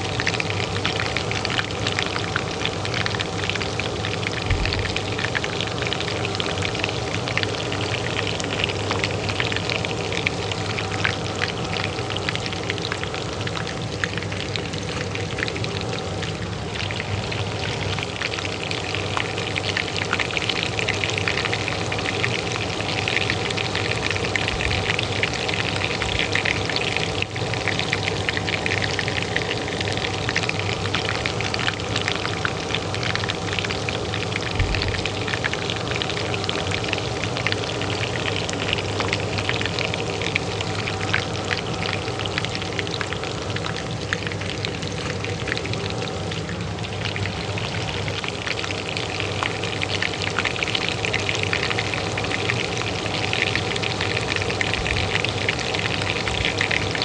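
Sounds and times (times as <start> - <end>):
oil sizzling in a pan: 0.0 - 57.0
range hood fan hum: 0.0 - 57.0.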